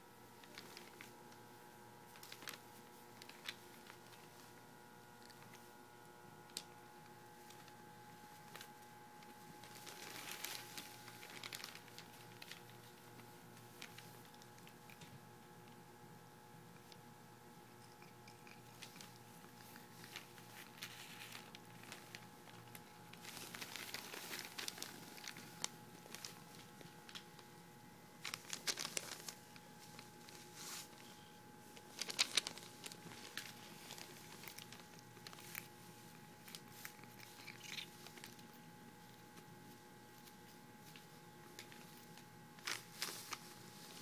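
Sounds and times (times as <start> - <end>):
faint steady hum: 0.0 - 44.0
brush bristles crinkling rustle: 2.1 - 4.6, 7.3 - 15.0, 17.8 - 27.4, 28.2 - 44.0.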